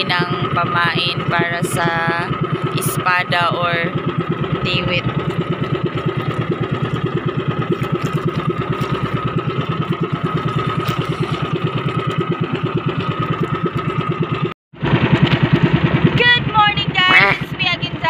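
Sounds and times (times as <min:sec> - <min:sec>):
boat engine putter: 0:00.0 - 0:18.0.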